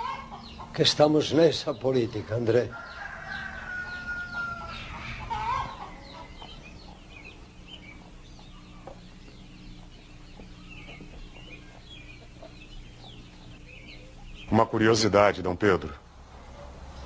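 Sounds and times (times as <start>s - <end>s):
chickens clucking and calling: 0.0s - 17.0s.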